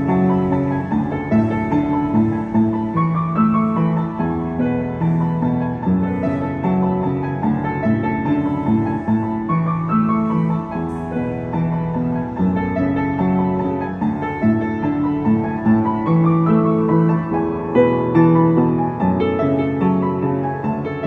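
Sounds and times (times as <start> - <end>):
upright piano playing: 0.0 - 21.0.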